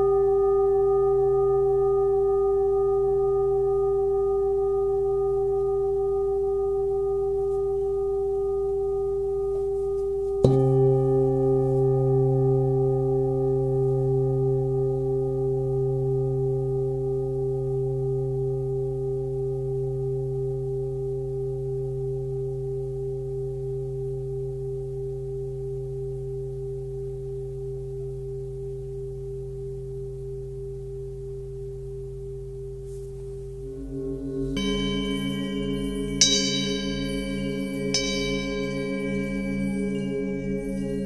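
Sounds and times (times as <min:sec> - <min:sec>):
singing bowl ringing: 0:00.0 - 0:27.2, 0:33.4 - 0:41.0.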